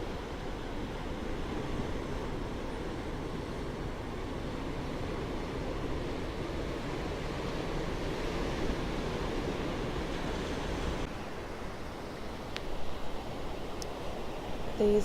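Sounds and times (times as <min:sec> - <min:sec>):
ocean surf washing ashore: 0:00.0 - 0:15.0.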